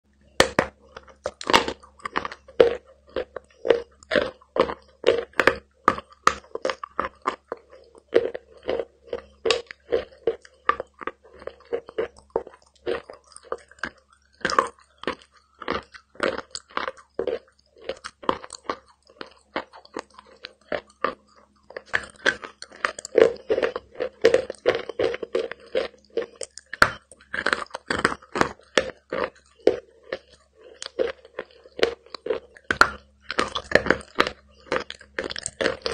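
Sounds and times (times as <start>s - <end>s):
chalk crunching while chewed: 0.3s - 35.9s.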